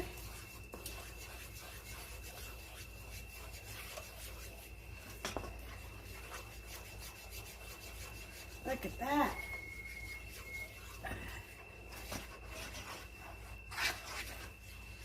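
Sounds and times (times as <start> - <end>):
utensil scraping in a pan: 0.0 - 15.0.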